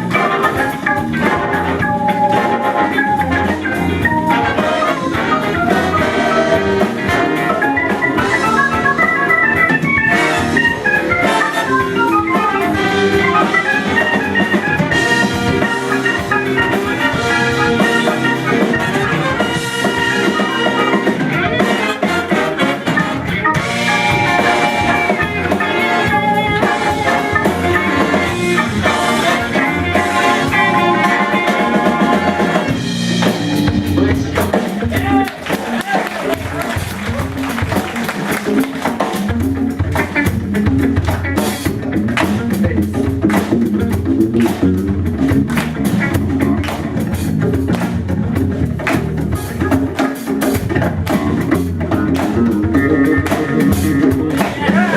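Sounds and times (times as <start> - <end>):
soul-funk band playing: 0.0 - 54.9.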